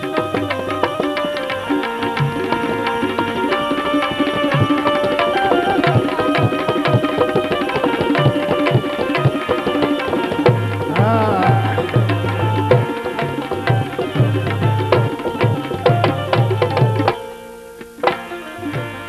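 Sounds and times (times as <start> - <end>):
held melody notes: 0.0 - 19.0
tabla playing rhythm: 0.0 - 19.0.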